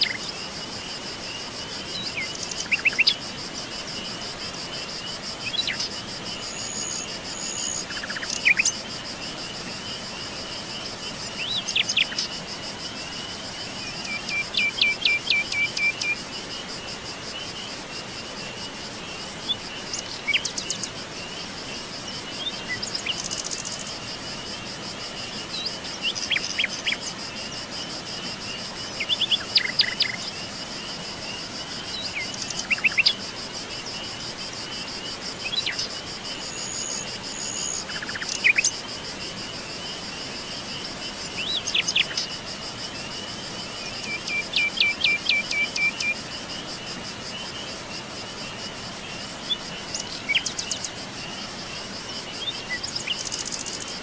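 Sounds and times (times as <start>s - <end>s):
forest birds chirping: 0.0s - 54.0s
insect trill: 0.0s - 54.0s.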